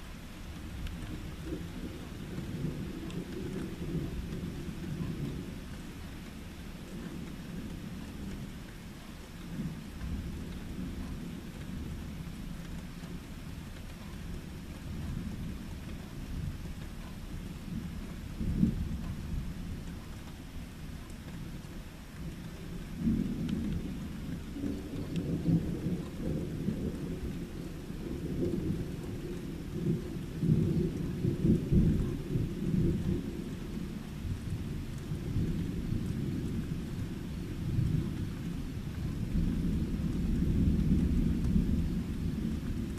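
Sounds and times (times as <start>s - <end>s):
rain pattering: 0.0s - 42.9s
thunder rumbling: 0.0s - 42.9s.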